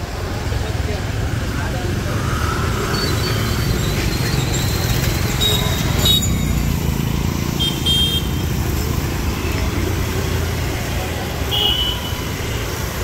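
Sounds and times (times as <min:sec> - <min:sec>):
motorcycles and traffic rumbling: 0:00.0 - 0:13.0.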